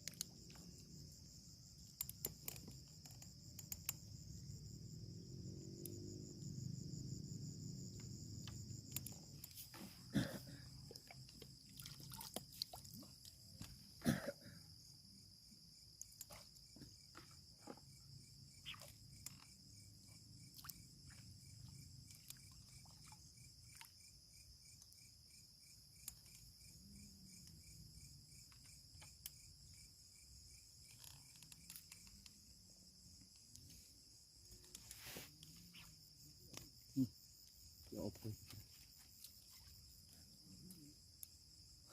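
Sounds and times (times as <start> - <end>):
insects trilling: 0.0 - 41.9
pulsing insect trill: 0.0 - 41.9.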